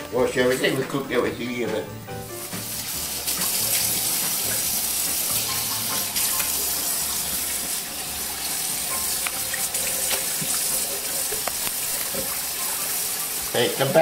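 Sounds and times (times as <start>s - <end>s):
faucet running into sink: 2.4s - 14.0s
water splashing over meat: 2.5s - 14.0s.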